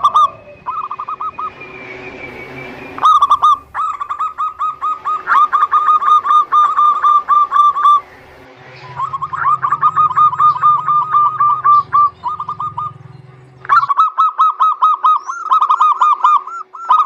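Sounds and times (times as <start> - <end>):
dove cooing: 0.0 - 1.5, 3.0 - 17.0.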